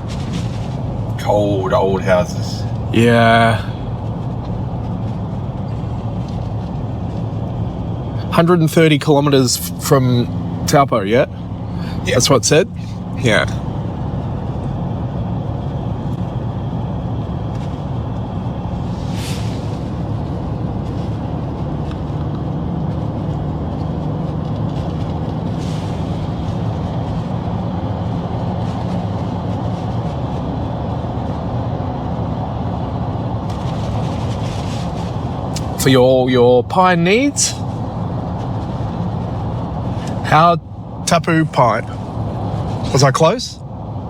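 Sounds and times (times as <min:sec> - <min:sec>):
car engine and tyre noise: 0:00.0 - 0:44.0.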